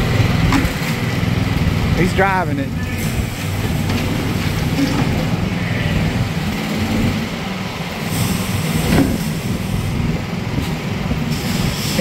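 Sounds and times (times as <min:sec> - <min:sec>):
small excavator engine running: 0:00.0 - 0:12.0.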